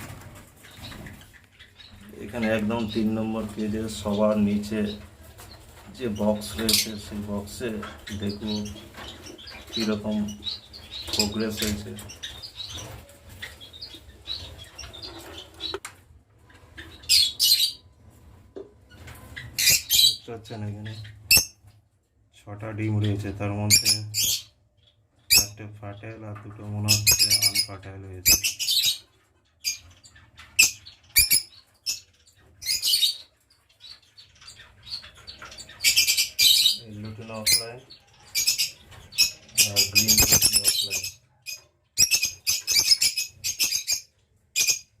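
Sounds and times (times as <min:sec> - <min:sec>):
lovebirds chirping: 0:00.0 - 0:45.0.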